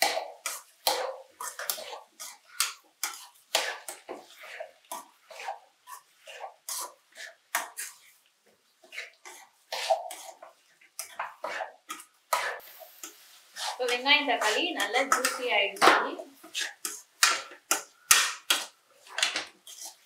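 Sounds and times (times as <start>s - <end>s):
metal spatula scraping a pan: 0.0s - 20.0s
onions sauteing: 0.0s - 20.0s.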